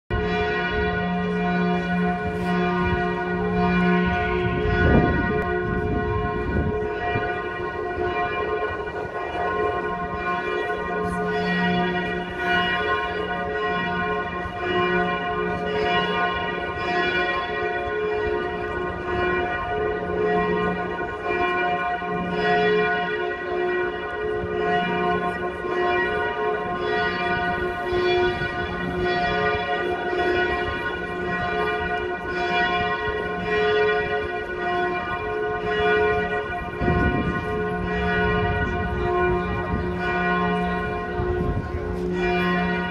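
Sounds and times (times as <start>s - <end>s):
church bells pealing: 0.1s - 42.9s.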